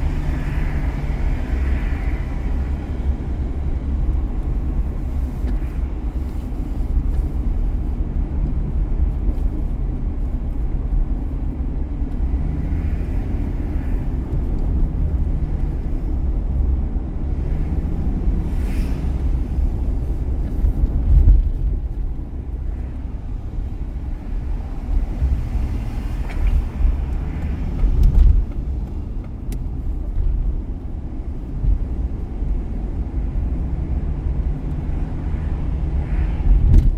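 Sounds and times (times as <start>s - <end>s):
car engine and tyre rumble: 0.0s - 36.9s.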